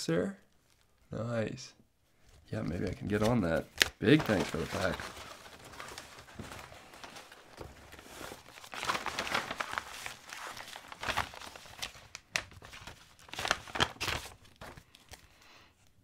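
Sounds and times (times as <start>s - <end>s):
paper rustling and crinkling: 2.2s - 15.3s.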